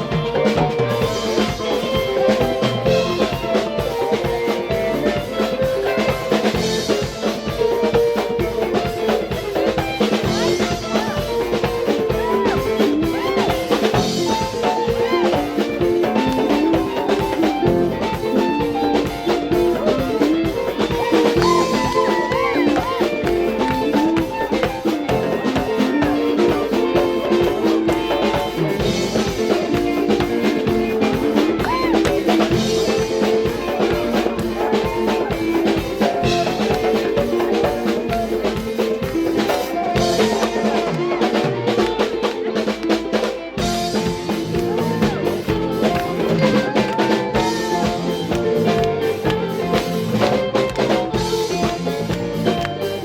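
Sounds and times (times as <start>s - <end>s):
band music: 0.0s - 53.0s
drum kit steady beat: 0.0s - 53.0s.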